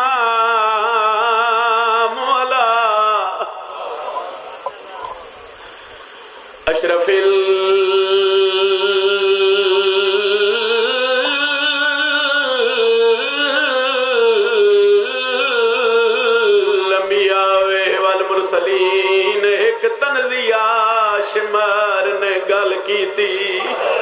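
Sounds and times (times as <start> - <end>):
man singing into a microphone: 0.0 - 3.7, 6.6 - 24.0.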